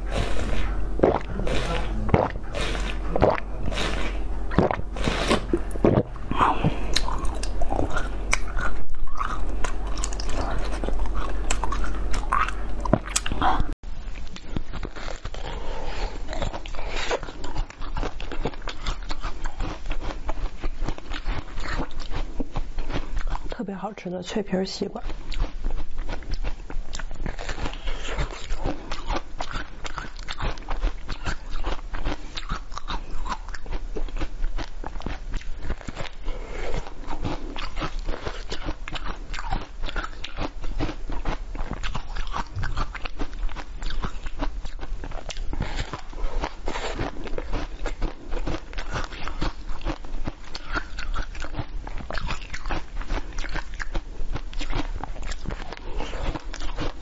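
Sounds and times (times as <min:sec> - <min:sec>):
crunching and chewing: 0:00.0 - 0:23.6, 0:25.0 - 0:57.0.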